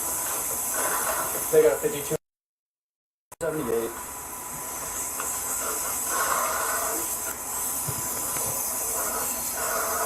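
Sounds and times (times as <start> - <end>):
steady hiss: 0.0 - 2.2, 3.4 - 10.0.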